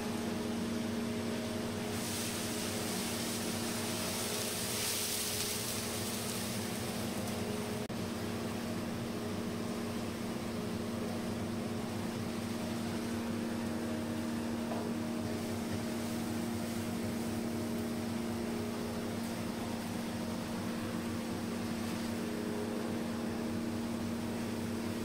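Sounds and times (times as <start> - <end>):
kitchen equipment humming: 0.0 - 25.0.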